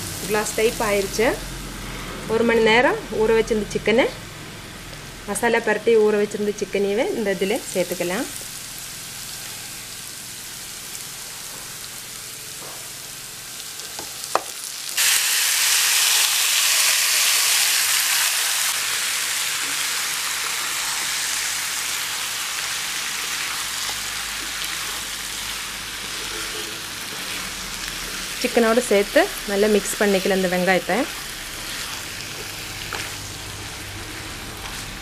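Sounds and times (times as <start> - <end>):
food sizzling in hot oil: 0.0 - 1.4, 7.2 - 35.0.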